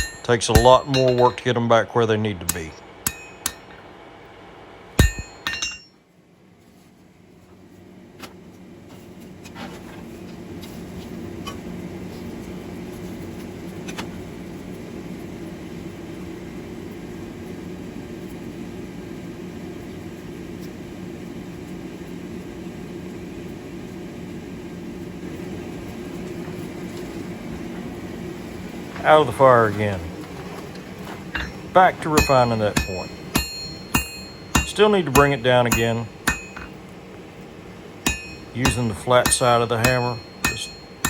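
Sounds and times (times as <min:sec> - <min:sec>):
forge humming and rushing: 0:00.0 - 0:05.9, 0:09.0 - 0:41.0.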